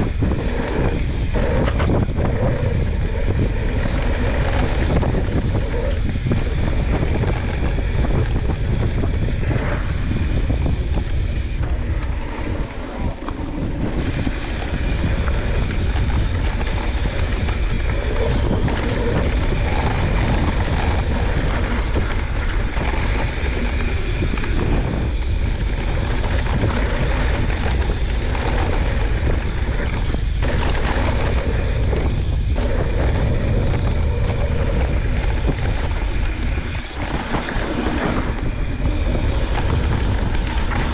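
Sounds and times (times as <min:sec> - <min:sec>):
bike tyres rolling on dirt trail: 0:00.0 - 0:40.9
wind on microphone: 0:00.0 - 0:40.9.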